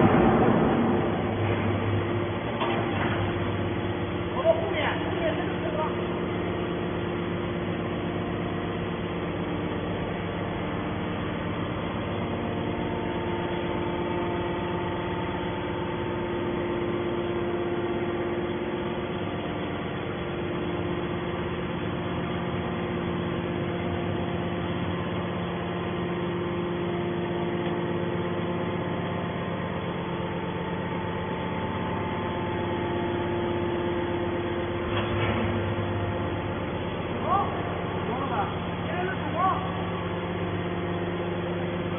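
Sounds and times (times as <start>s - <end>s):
machine motor and pump humming: 0.0s - 41.9s.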